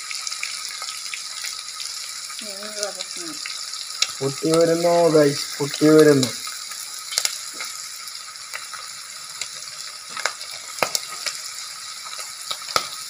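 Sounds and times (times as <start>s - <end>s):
oil popping and crackling: 0.0s - 13.0s
prawns sizzling in oil: 0.0s - 13.0s.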